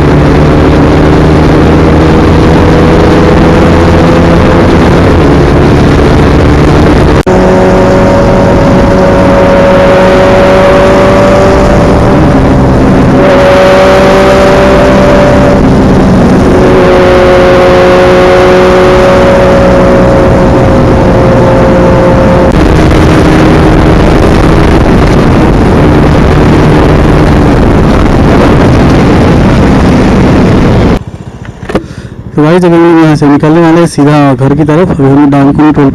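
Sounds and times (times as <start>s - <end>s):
motorcycle engines running: 0.0s - 31.8s
wind noise on microphone: 0.0s - 32.3s.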